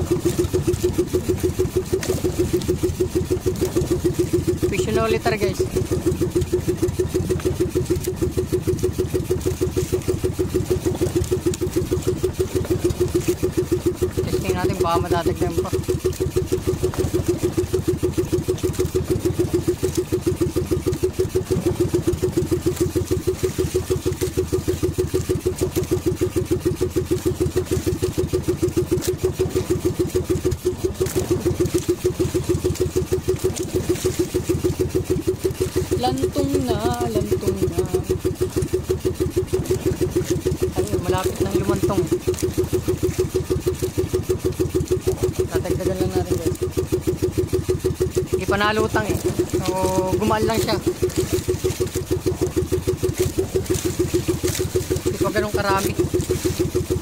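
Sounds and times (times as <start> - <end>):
boat engine pulsing: 0.0 - 57.0.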